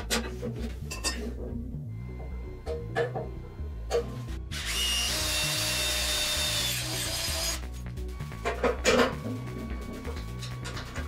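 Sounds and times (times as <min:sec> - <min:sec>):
background music: 0:00.0 - 0:11.0
power tool running: 0:02.0 - 0:11.0.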